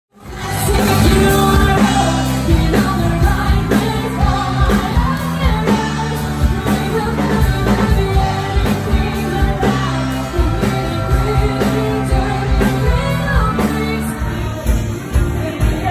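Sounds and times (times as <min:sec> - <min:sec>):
pop band playing: 0:00.1 - 0:15.9
person singing: 0:00.2 - 0:15.9.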